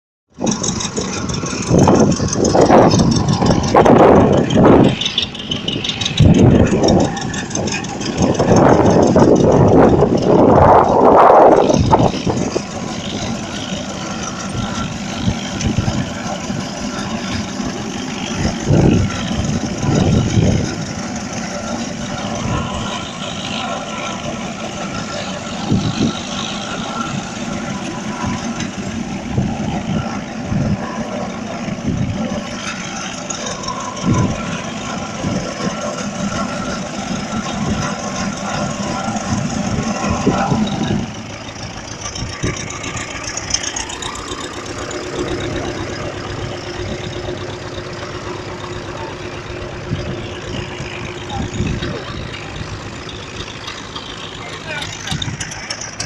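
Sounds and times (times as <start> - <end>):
tractor engine idling: 0.3 - 56.0.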